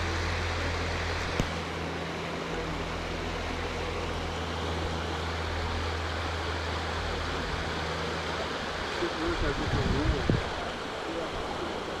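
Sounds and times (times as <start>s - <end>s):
low steady hum: 0.0s - 12.0s
river water flowing: 0.0s - 12.0s.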